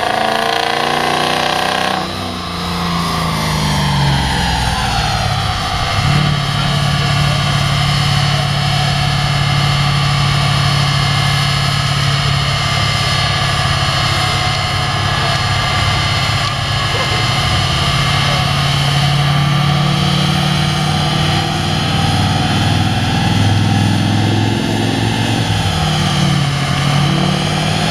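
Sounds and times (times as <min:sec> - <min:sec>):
diesel engine running loud: 0:00.0 - 0:27.9.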